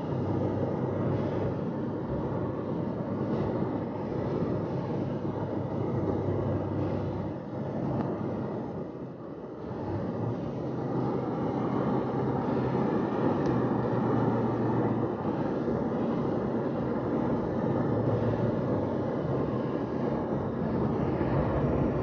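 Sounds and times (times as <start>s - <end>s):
constant low hum: 0.0s - 22.0s.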